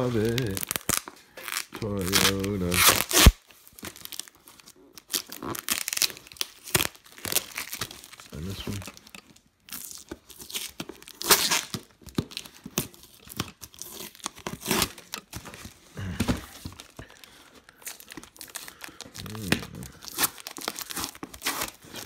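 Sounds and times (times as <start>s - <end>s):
cardboard rustling: 0.0s - 9.4s, 10.0s - 22.0s
packing tape ripping: 0.0s - 22.0s.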